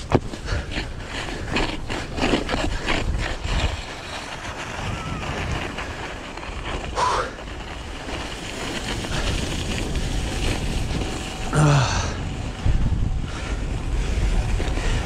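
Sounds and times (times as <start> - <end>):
snow blades scraping snow: 0.0 - 15.0
wind rumbling on microphone: 0.0 - 15.0.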